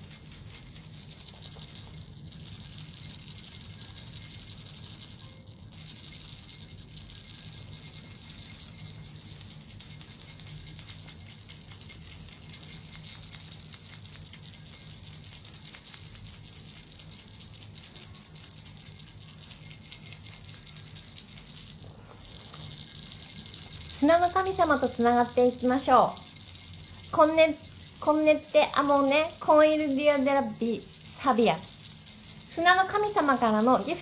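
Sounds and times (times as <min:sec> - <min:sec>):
small bells jingling: 0:00.0 - 0:34.0.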